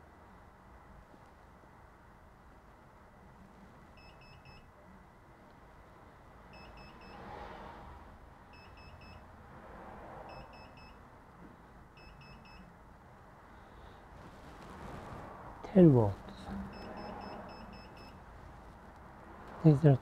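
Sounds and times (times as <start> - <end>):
low background hiss: 0.0 - 7.3, 10.2 - 20.0.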